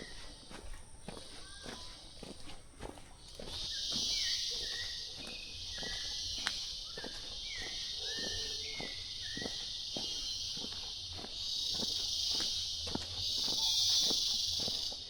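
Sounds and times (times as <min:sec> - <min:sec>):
footsteps on leafy trail: 0:00.0 - 0:15.0.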